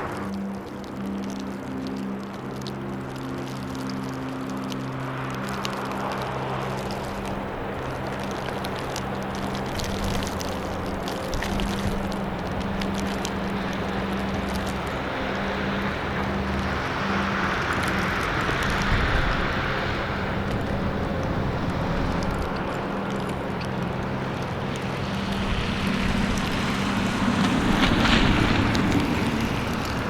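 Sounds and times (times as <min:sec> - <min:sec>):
low traffic engine hum: 0:00.0 - 0:30.0
storm wind gusts: 0:00.0 - 0:30.0.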